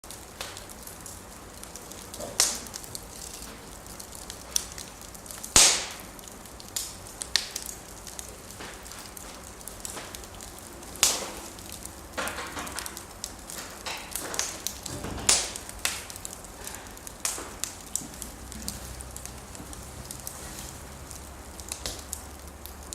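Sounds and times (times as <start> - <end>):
fire crackling in fireplace: 0.0 - 22.9.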